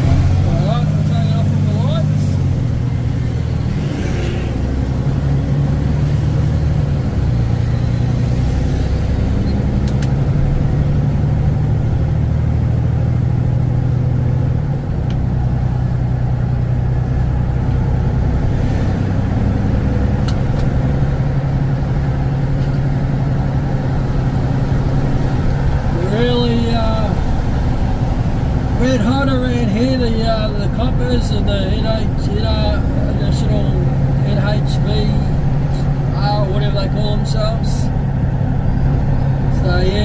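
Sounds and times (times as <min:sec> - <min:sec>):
diesel truck engine accelerating: 0:00.0 - 0:40.0.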